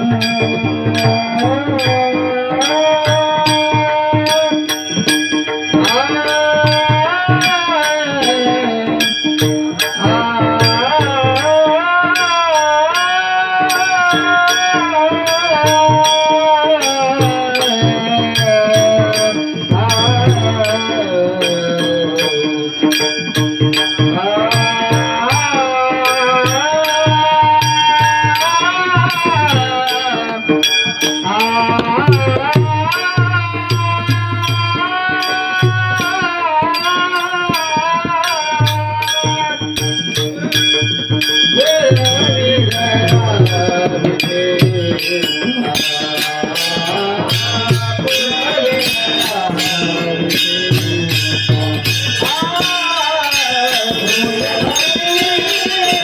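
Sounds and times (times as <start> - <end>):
man singing devotional melody: 0.0 - 56.0.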